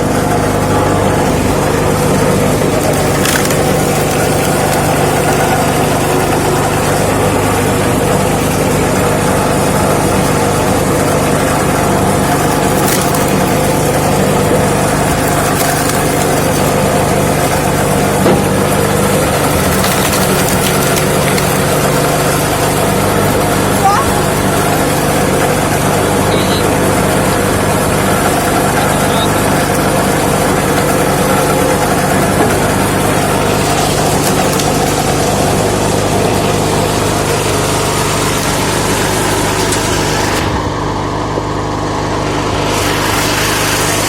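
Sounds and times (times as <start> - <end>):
petrol engine running: 0.0 - 44.0
logs cracking as they split: 0.6 - 26.2, 27.0 - 40.8.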